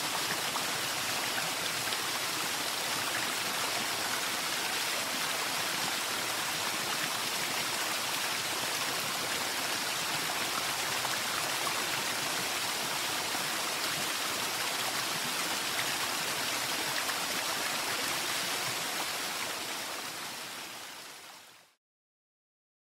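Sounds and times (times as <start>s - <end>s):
running water rushing: 0.0s - 21.8s.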